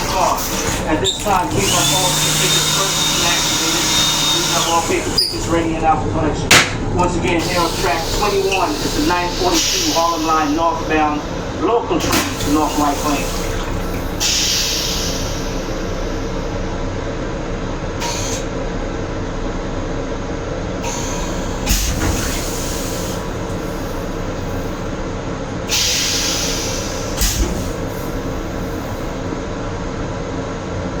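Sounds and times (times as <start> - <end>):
railcar rumble: 0.0 - 31.0.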